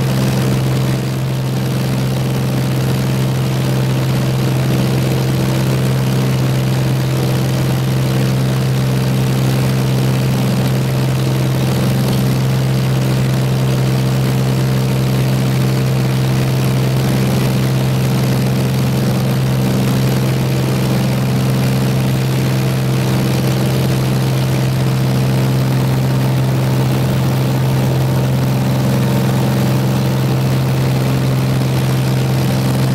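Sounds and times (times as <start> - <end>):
propeller aircraft engine droning: 0.0 - 32.9.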